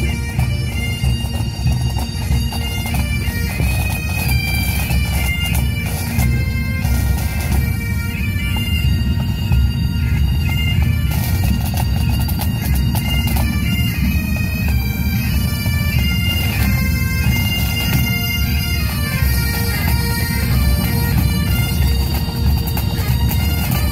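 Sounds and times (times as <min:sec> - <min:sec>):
bagpipes playing a march: 0:00.0 - 0:23.9.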